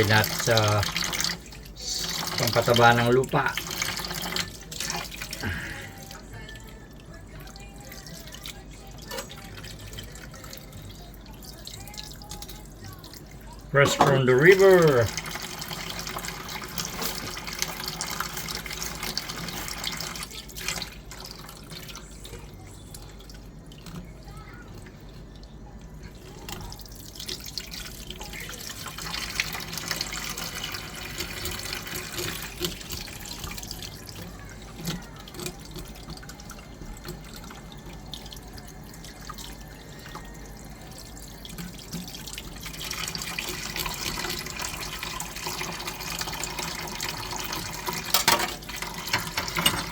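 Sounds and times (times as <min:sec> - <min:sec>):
tap water splashing in sink: 0:00.0 - 0:05.4, 0:07.4 - 0:49.9.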